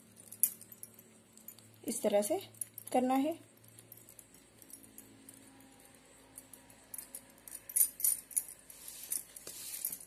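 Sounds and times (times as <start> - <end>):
bangles clinking and jingling: 0.0 - 10.0.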